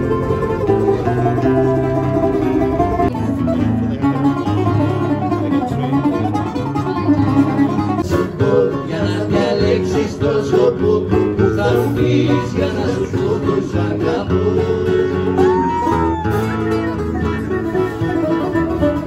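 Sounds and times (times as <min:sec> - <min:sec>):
acoustic guitar: 0:00.0 - 0:19.0
bouzouki: 0:00.0 - 0:19.0.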